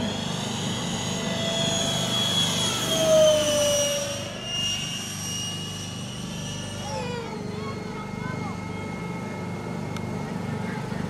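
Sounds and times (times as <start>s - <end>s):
model jet ducted-fan whine: 0.0s - 11.0s.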